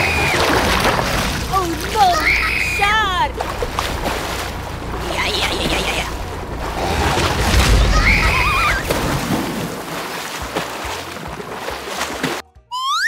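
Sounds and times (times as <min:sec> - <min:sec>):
low rumble: 0:00.0 - 0:11.6.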